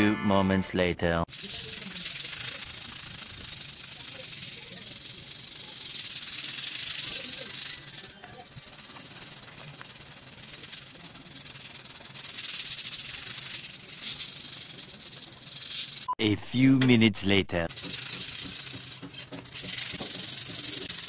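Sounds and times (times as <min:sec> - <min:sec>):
sandpaper rubbing steel blade: 0:01.3 - 0:16.1, 0:17.7 - 0:21.0.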